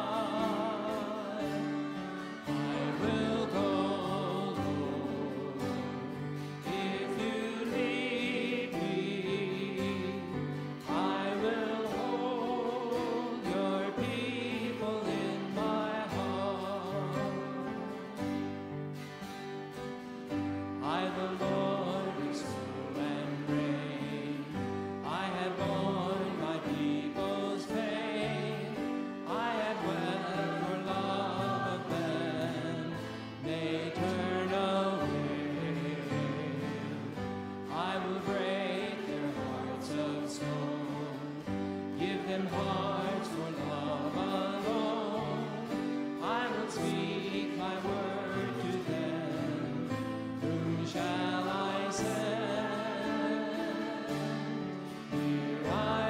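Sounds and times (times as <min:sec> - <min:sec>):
congregation singing a hymn: 0:00.0 - 0:56.0
instrumental accompaniment: 0:00.0 - 0:56.0.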